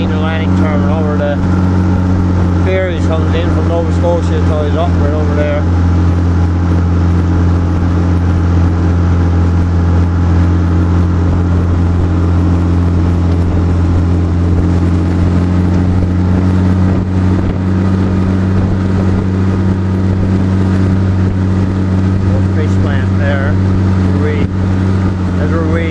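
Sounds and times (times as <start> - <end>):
boat motor droning: 0.0 - 25.9
water noise: 0.0 - 25.9
wind noise: 0.0 - 25.9.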